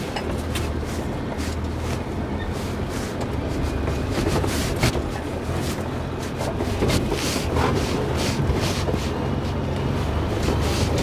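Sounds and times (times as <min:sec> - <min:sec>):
vehicle engine running: 0:00.0 - 0:11.0
vehicle rattles and knocks: 0:00.0 - 0:11.0.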